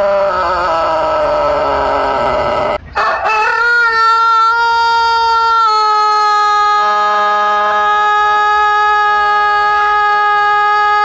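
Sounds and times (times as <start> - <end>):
rooster crowing: 0.0 - 11.0.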